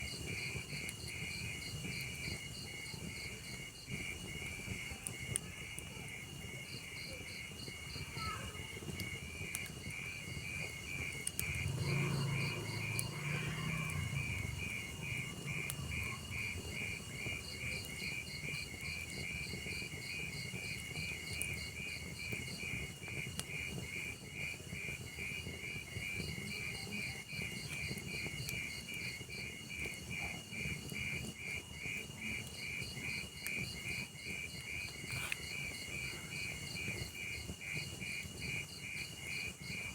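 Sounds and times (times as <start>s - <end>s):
crickets chirping: 0.0s - 39.9s
log fire crackling: 0.0s - 39.9s.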